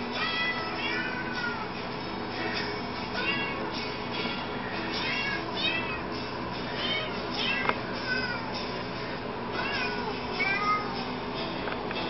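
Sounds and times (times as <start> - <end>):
faint backing music: 0.0 - 12.0.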